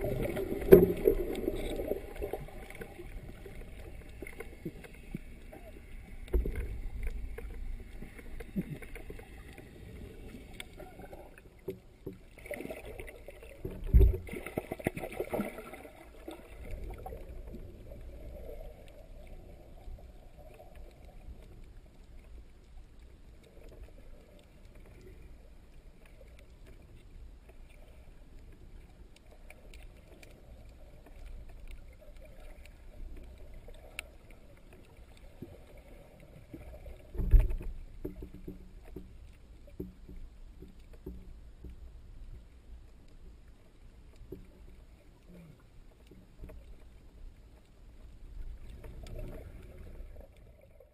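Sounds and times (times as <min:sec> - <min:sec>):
underwater rumble of moving water: 0:00.0 - 0:50.9.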